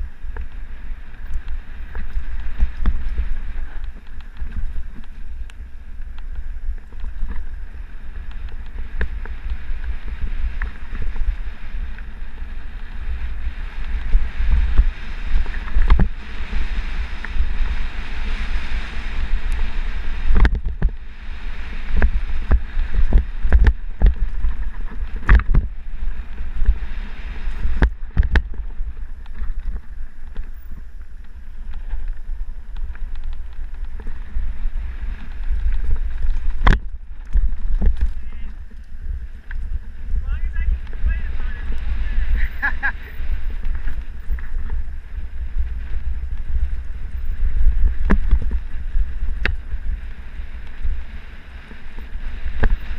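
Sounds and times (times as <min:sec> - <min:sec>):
bike knocking and rattling: 0:00.0 - 0:52.9
steady low rumble: 0:00.0 - 0:52.9
wind buffeting microphone: 0:00.0 - 0:52.9.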